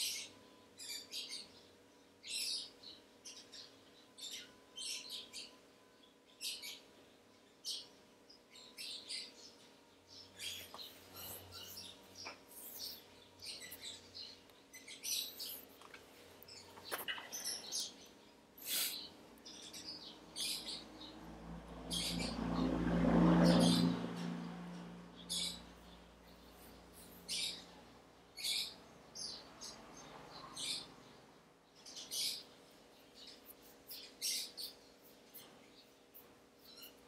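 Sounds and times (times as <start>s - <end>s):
faint steady hum: 0.0s - 23.1s, 24.0s - 37.0s
small birds chirping: 0.0s - 37.0s.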